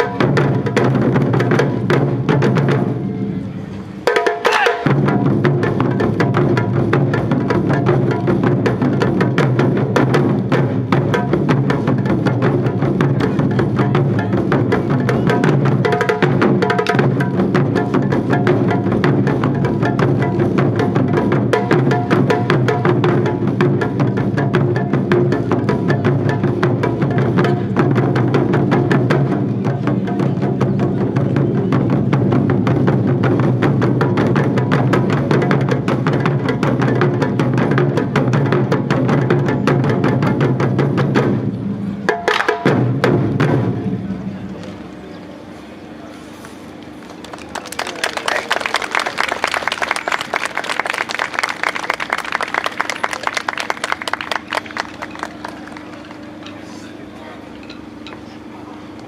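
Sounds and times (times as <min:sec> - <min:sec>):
taiko drums playing: 0:00.0 - 0:44.4, 0:48.6 - 0:56.7.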